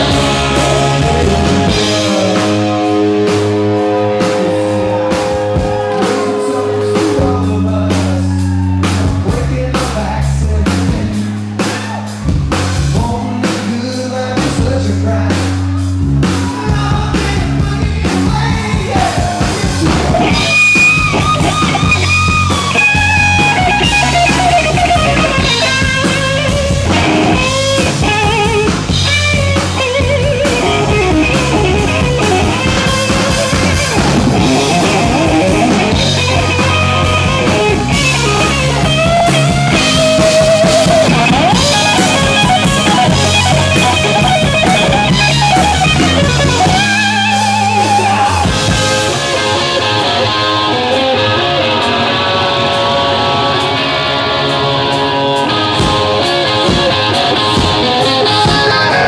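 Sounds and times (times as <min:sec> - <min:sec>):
electric guitar lead lines: 0:00.0 - 0:11.4, 0:12.2 - 0:59.0
live rock band playing: 0:00.0 - 0:59.0.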